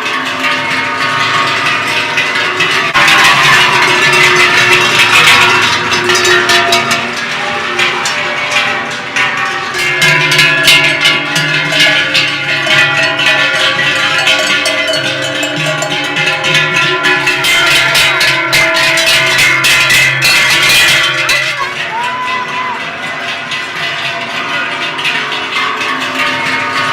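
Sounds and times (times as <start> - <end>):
cowbells clanking: 0.0 - 26.9.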